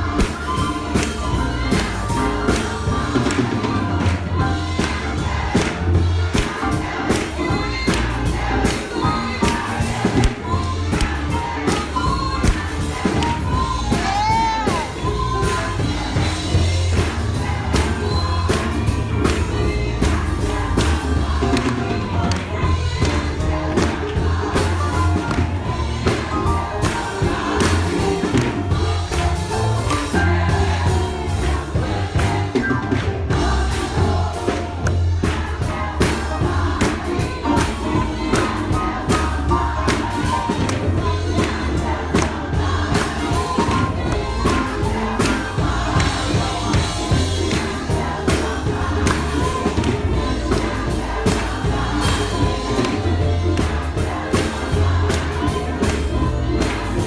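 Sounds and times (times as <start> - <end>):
choir singing gospel with band: 0.0 - 57.0.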